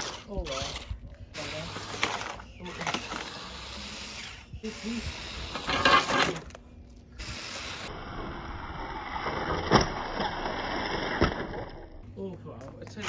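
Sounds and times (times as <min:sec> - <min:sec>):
toy car electric motor running: 0:00.0 - 0:06.5, 0:07.2 - 0:11.6.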